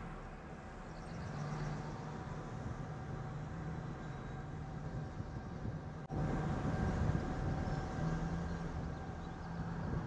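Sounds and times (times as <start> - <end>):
car driving road rumble: 0.0 - 10.0.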